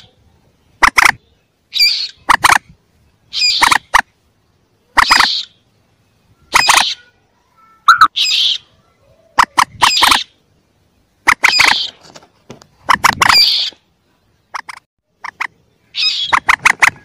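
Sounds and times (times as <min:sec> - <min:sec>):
harsh moorhen chick calls: 0:00.0 - 0:04.1, 0:04.8 - 0:07.2, 0:07.8 - 0:10.5, 0:11.2 - 0:12.1, 0:12.8 - 0:17.0.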